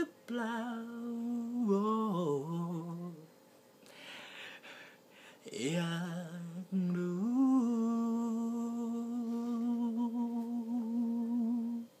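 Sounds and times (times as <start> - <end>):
man singing hummed note: 0.0 - 3.4, 5.4 - 12.0.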